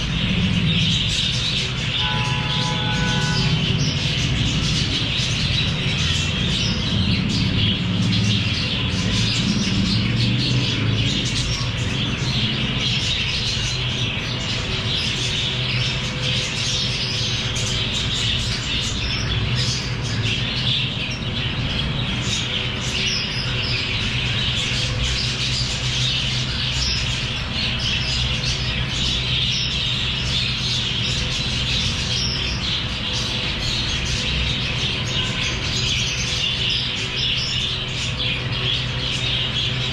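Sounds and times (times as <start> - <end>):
parrots chattering and squawking: 0.0 - 39.9
steady low hum: 0.0 - 39.9.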